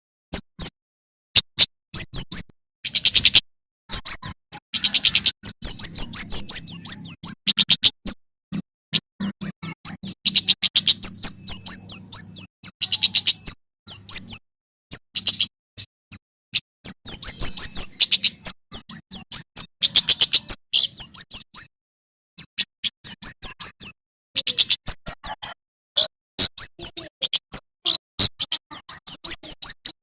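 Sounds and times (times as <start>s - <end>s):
bird singing rapid chirps and trills: 0.3s - 0.8s, 1.4s - 30.0s.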